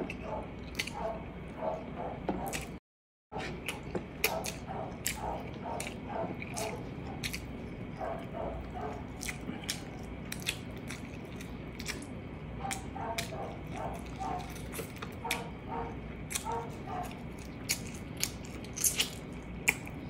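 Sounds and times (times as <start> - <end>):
person chewing and smacking: 0.0 - 2.8, 3.4 - 20.0.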